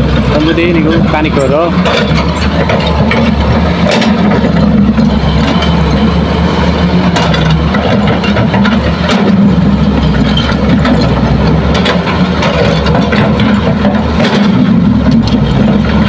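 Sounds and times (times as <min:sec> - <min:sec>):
diesel engines running: 0:00.0 - 0:16.0
excavator digging soil and rock: 0:00.0 - 0:16.0.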